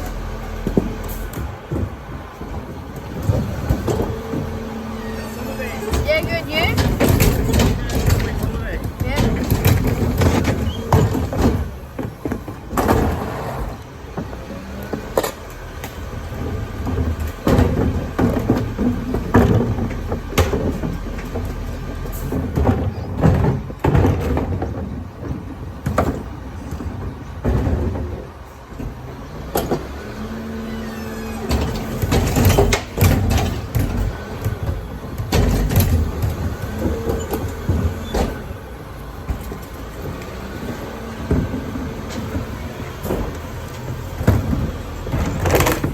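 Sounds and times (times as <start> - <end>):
clattering knocks and bangs: 0.0 - 45.9
garbage truck engine running: 0.0 - 45.9.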